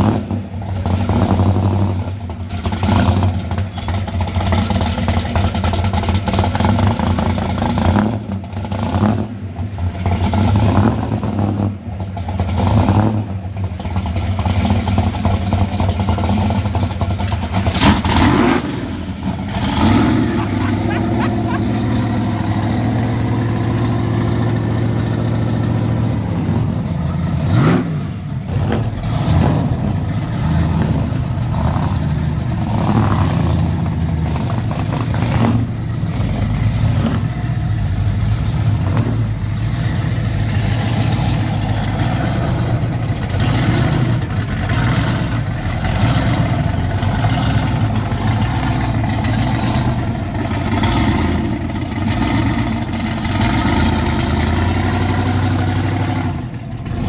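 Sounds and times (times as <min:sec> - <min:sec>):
car engines idling and revving: 0:00.0 - 0:57.0.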